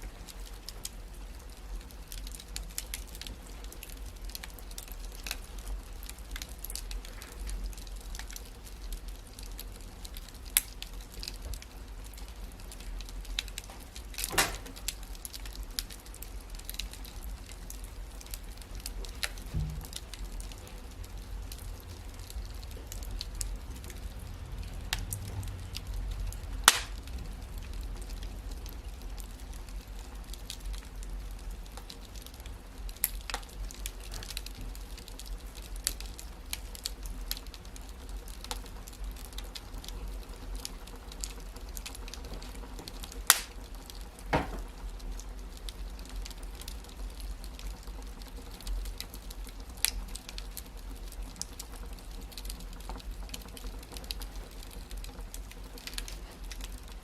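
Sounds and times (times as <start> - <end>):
low rumble of flames: 0.0 - 57.0
wood fire crackling: 0.0 - 57.0
loud snaps of fire: 0.1 - 57.0.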